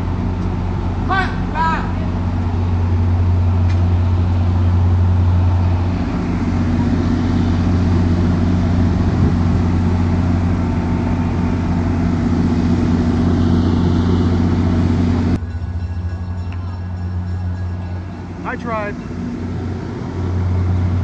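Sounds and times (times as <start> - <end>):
diesel locomotive engine droning: 0.0 - 21.0.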